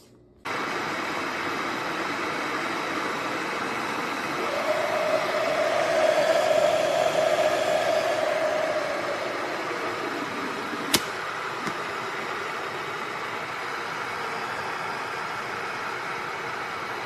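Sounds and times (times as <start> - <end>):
kettle mid-pitched hum: 0.5 - 17.0
kettle water rushing: 0.5 - 17.0.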